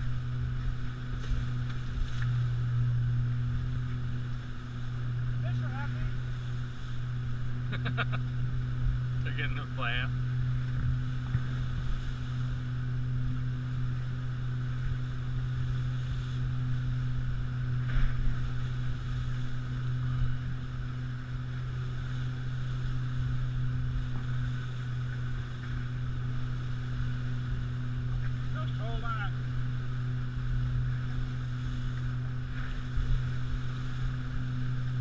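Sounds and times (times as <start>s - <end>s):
outboard motor running: 0.0s - 35.0s.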